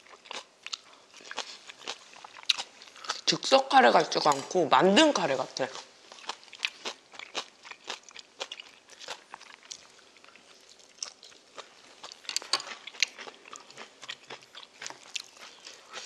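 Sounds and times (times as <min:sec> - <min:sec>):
chewing and crunching: 0:00.0 - 0:03.4, 0:05.6 - 0:16.0.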